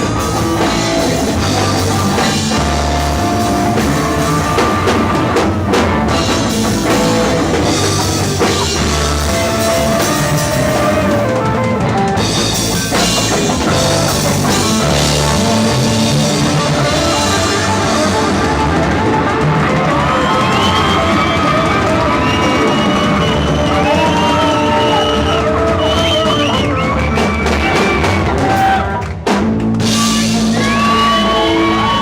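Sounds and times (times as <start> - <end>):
bass guitar: 0.0 - 32.0
drum kit: 0.0 - 32.0
rock band playing: 0.0 - 32.0.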